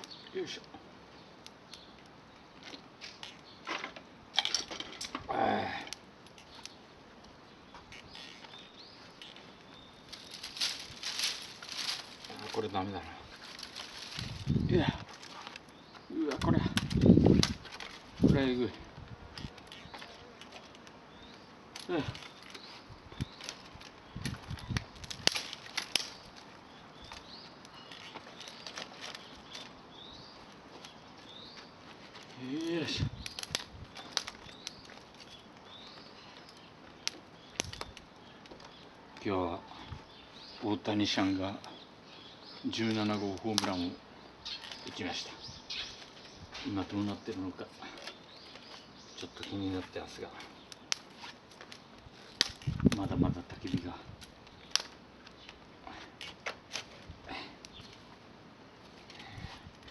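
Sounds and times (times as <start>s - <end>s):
campfire wood cracking: 0.0s - 59.9s
dry branches snapping: 1.4s - 18.6s, 19.3s - 39.3s, 42.6s - 45.2s, 45.9s - 58.1s.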